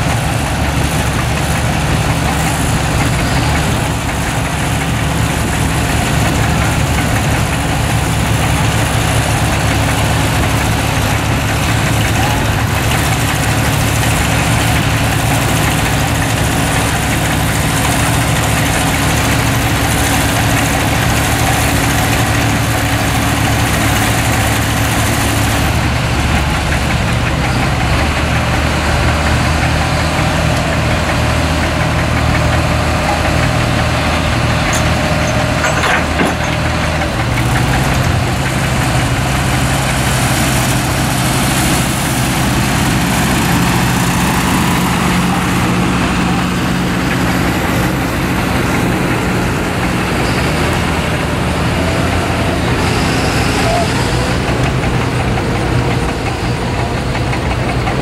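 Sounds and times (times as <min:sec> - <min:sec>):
tractor engines idling: 0:00.0 - 0:58.0.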